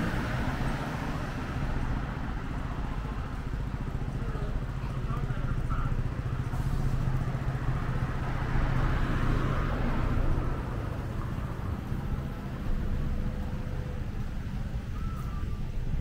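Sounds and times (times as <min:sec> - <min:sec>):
traffic engine rumble: 0:00.0 - 0:16.0
vehicle passing: 0:00.0 - 0:16.0.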